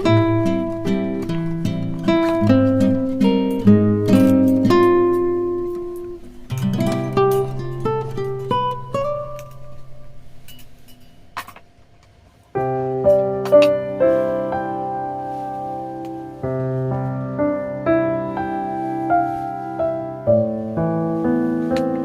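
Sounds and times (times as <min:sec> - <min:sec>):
guitar chord: 0:00.0 - 0:10.6, 0:12.6 - 0:22.0
gentle piano chords: 0:00.0 - 0:22.0.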